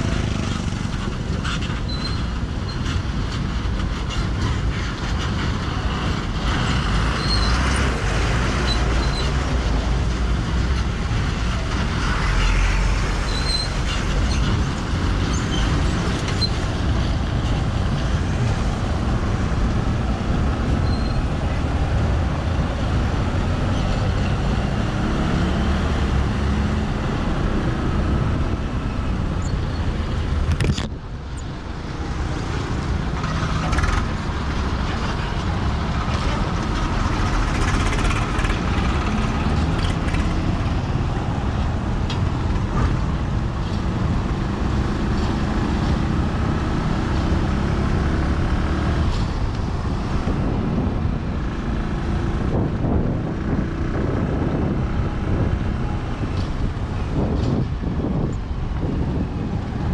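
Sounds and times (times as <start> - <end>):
road noise: 0.0 - 59.9
vehicle engine: 0.0 - 59.9.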